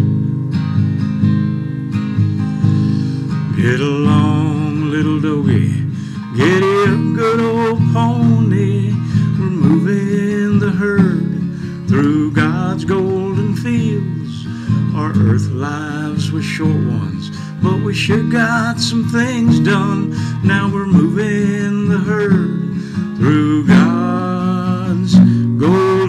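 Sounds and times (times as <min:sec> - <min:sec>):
acoustic guitar strumming: 0:00.0 - 0:26.0
man singing country song: 0:02.6 - 0:26.0.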